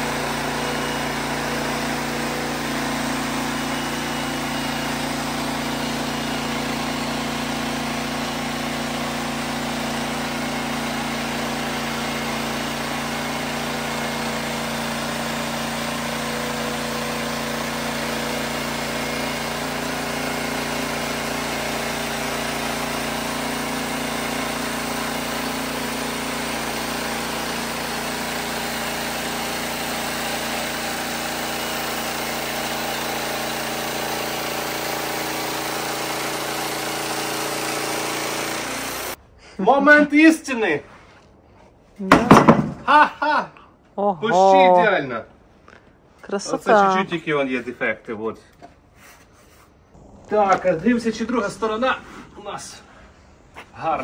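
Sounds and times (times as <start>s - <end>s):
band sawmill cutting log: 0.0s - 39.2s, 49.0s - 54.0s.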